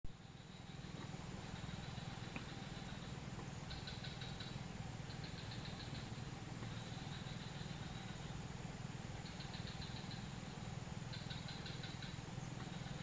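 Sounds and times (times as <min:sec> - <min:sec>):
faint low hum: 0:00.1 - 0:13.0.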